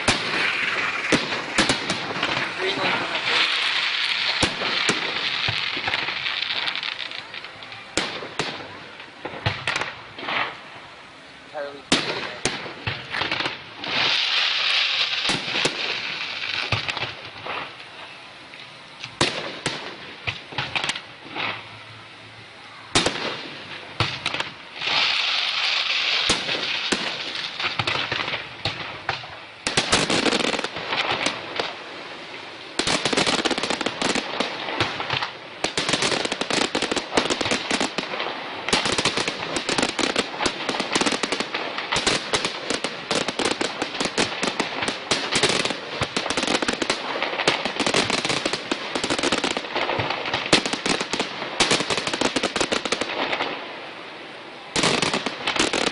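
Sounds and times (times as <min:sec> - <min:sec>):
hiss of launching shells: 0:00.0 - 0:22.0, 0:22.9 - 0:55.9
fireworks bangs and crackles: 0:00.0 - 0:55.9.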